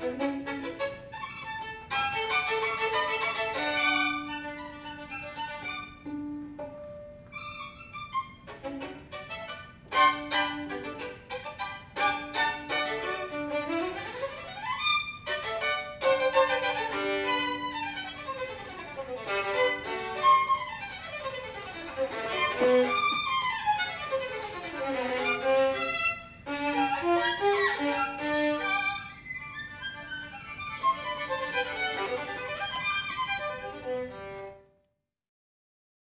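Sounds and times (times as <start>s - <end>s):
solo violin fast passages: 0.0s - 34.7s.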